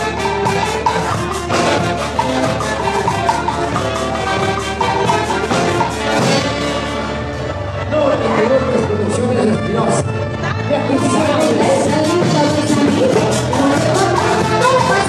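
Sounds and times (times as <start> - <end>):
latin dance music with percussion: 0.0 - 8.4, 10.6 - 15.0.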